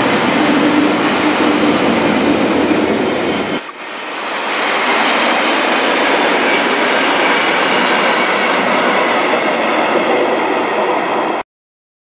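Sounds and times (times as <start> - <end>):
train wheels rumbling on rails: 0.0 - 11.4.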